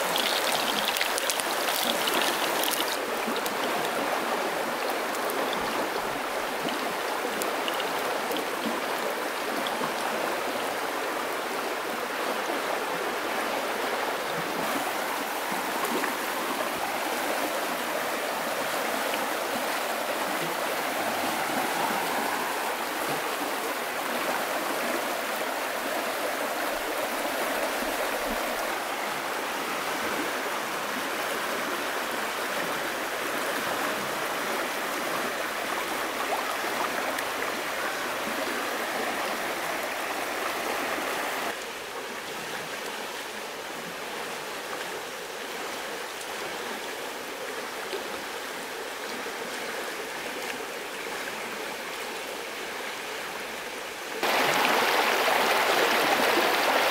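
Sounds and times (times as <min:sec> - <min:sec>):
stream running over stones: 0:00.0 - 0:56.9.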